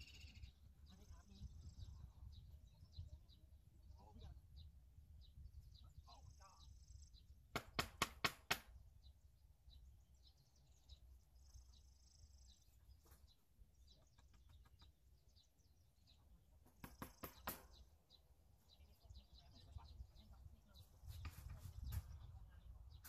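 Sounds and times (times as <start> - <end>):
bird chirps: 0.0 - 7.8, 8.5 - 23.0.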